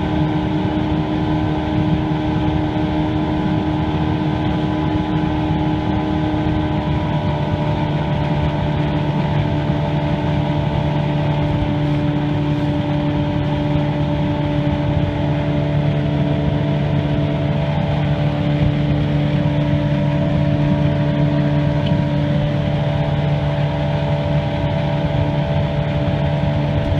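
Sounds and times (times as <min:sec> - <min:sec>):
outboard motor running: 0:00.0 - 0:26.9.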